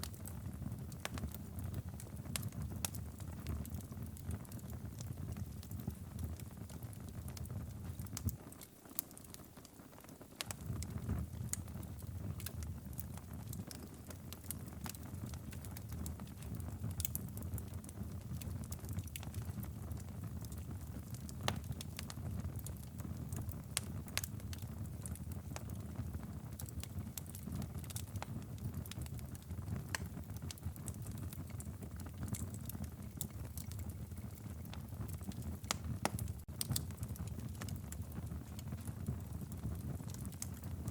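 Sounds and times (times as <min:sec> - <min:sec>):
fire flames rumbling: 0:00.0 - 0:09.8, 0:10.4 - 0:40.9
wood fire pops and snaps: 0:00.0 - 0:40.9.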